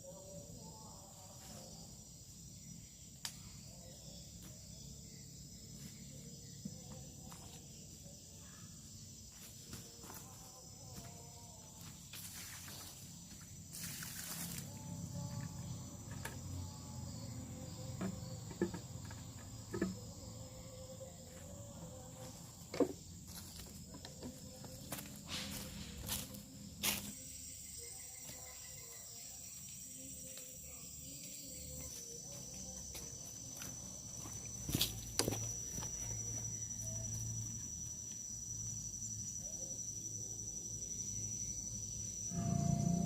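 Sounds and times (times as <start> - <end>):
insects droning: 0.0 - 43.0.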